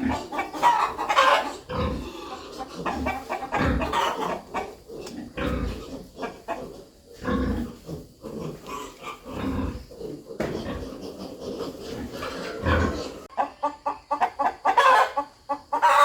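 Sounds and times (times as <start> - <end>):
rooster clucking: 0.0 - 16.0.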